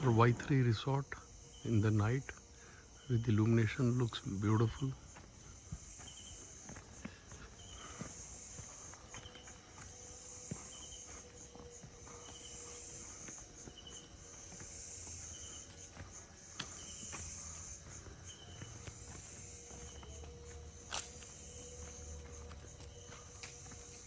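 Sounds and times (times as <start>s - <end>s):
insect chirp: 0.0s - 24.0s
insect high-pitched trill: 0.0s - 24.0s.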